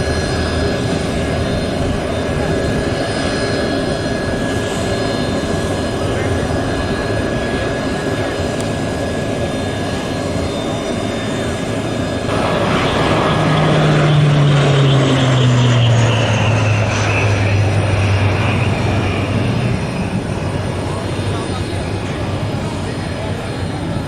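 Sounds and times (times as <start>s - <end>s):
aircraft engine flying past: 0.0s - 24.0s.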